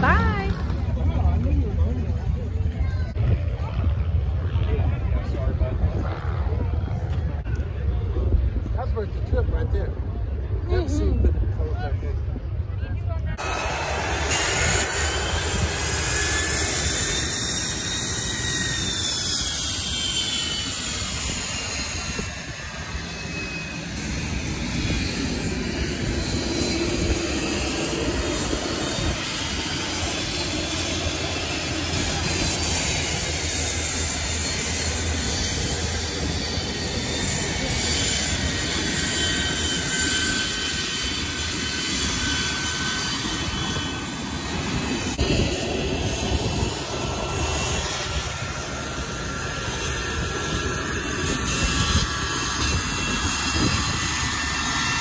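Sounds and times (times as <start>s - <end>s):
jet turbine whine: 0.0s - 55.0s
rush of jet engine noise: 0.0s - 55.0s.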